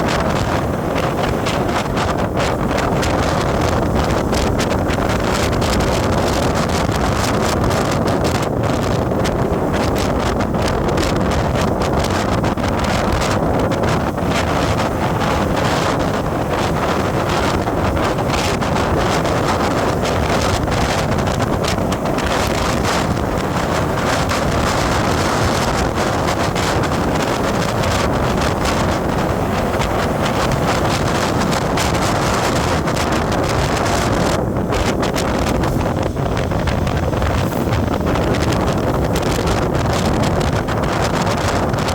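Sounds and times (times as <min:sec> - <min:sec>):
moving vehicle road noise: 0:00.0 - 0:41.9
wind buffeting microphone: 0:00.0 - 0:41.9.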